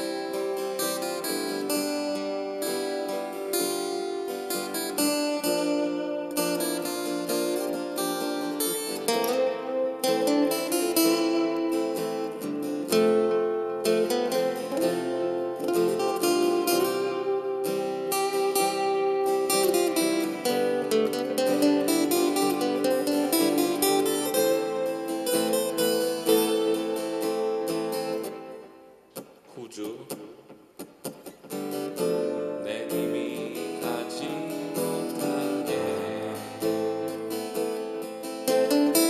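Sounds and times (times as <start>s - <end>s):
acoustic guitar lead solo: 0.0s - 39.0s
backing track: 0.0s - 39.0s.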